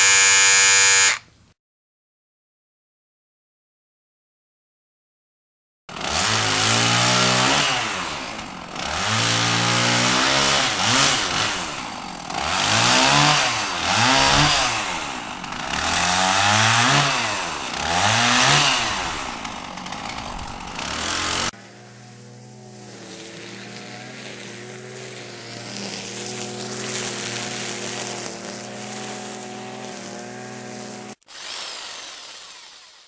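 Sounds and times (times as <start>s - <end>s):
engine revving: 0.0s - 1.2s, 6.0s - 33.0s.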